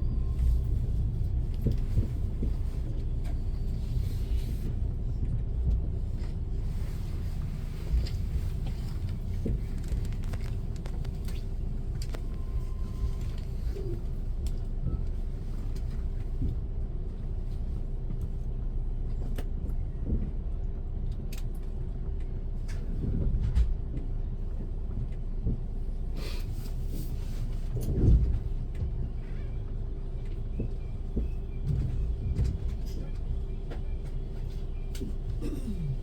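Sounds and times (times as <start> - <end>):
constant hum: 0.0 - 36.0
train rumbling on rails: 0.0 - 36.0.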